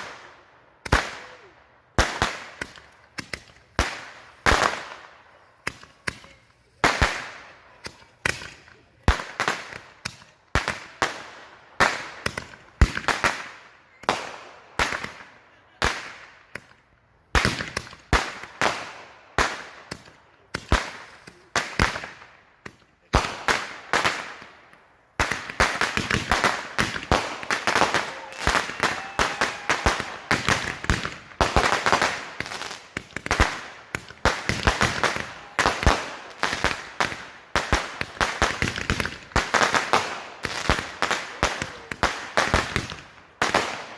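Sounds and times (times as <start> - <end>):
fireworks banging and crackling: 0.0 - 43.9.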